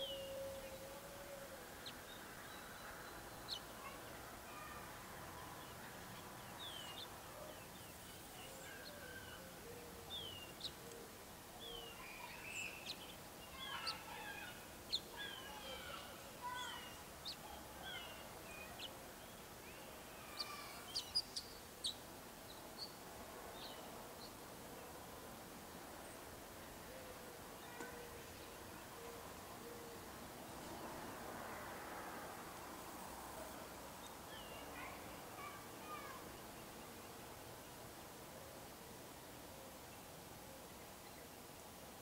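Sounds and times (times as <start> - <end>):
steady outdoor hiss: 0.0 - 42.0.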